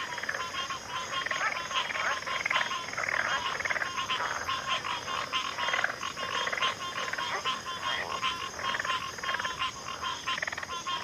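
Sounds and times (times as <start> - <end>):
frogs calling: 0.0 - 11.0.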